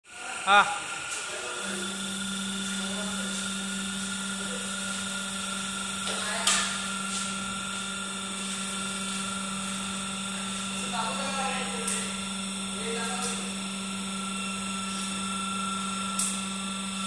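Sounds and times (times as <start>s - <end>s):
hydraulic pump motor humming: 0.1s - 17.0s.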